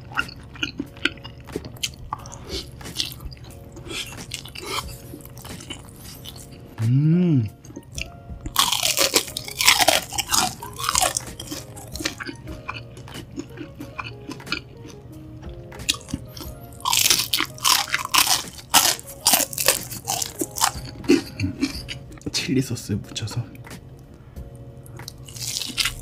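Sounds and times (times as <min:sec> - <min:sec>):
crunching fried shrimp: 0:00.0 - 0:06.8, 0:07.5 - 0:15.0, 0:15.8 - 0:22.4, 0:24.8 - 0:26.0.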